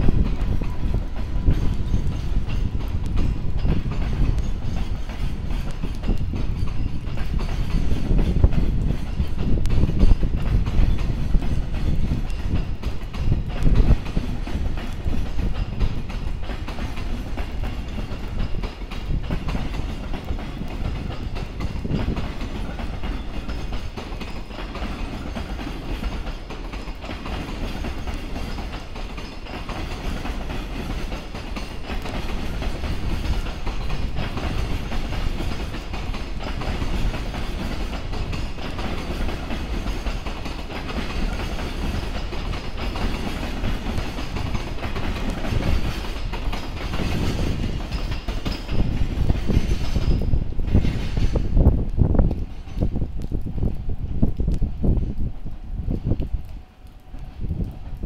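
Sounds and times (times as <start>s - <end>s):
train wheels clicking over rail joints: 0.0s - 58.0s
wind buffeting microphone: 0.0s - 58.0s.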